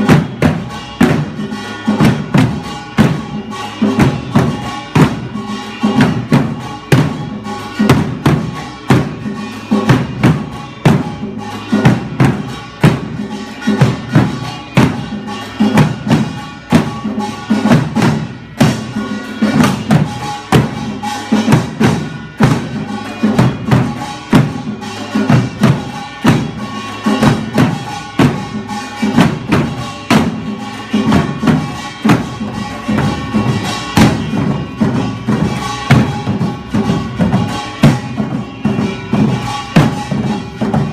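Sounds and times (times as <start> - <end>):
drums beaten in fast rhythm: 0.0 - 40.9
ringing tones: 0.0 - 40.9.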